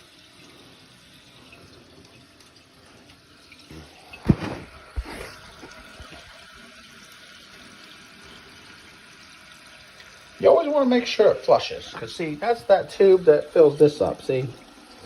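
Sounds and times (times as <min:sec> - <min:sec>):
toilet tank refilling hiss: 0:00.0 - 0:15.0.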